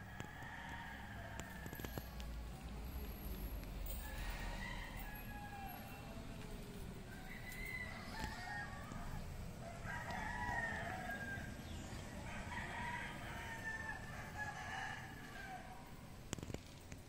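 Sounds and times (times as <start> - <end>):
roosters crowing: 0.0 - 2.2, 3.8 - 16.5.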